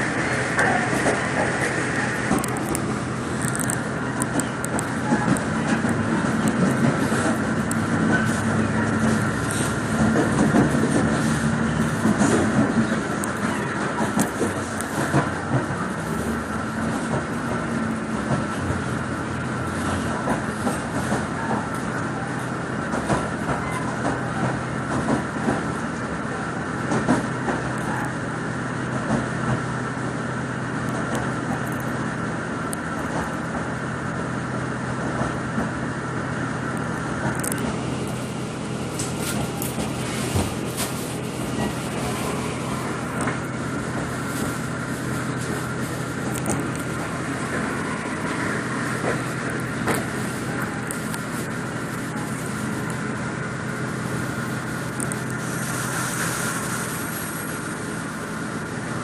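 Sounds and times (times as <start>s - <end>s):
vehicle running noise: 0.0s - 59.0s.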